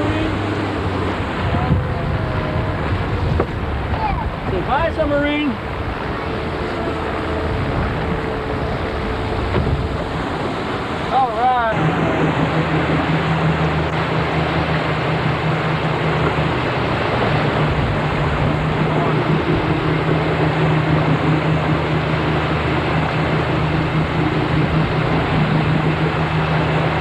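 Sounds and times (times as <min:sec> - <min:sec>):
boat engine humming: 0:00.0 - 0:27.0
water noise: 0:00.0 - 0:27.0.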